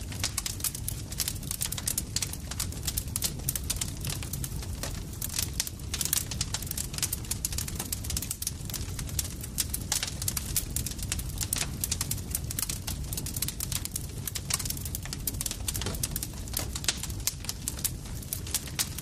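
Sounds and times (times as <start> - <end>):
campfire pops and snaps: 0.0 - 19.0
low rumble of flames: 0.0 - 19.0.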